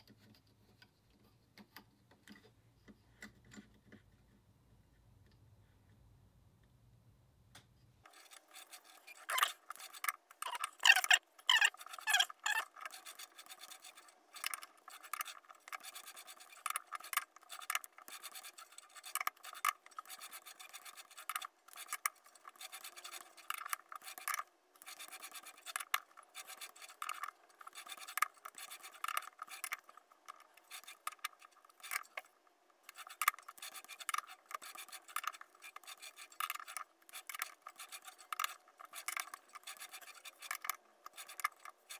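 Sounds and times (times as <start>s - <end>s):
metallic scraping and clicking: 8.0s - 41.9s.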